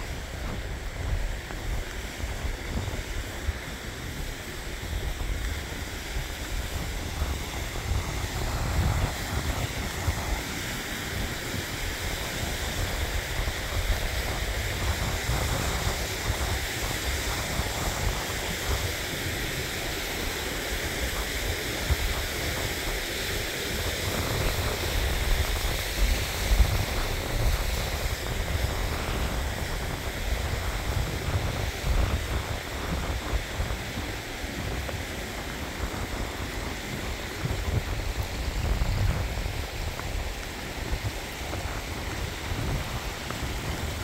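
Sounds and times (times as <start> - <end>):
mountain stream rushing: 0.0 - 44.0
wind gusting on microphone: 0.0 - 44.0.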